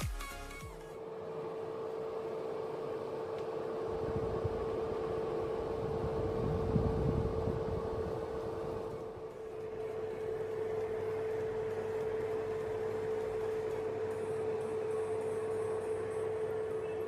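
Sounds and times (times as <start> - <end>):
fan heater whoosh and hum: 0.7 - 17.0.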